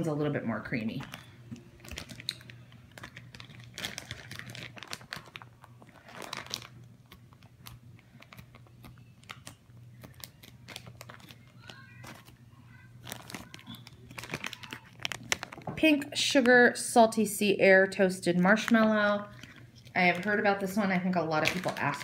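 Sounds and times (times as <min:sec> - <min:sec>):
faint low hum: 0:00.0 - 0:22.0
plastic bags crinkling: 0:00.6 - 0:16.6, 0:18.3 - 0:22.0.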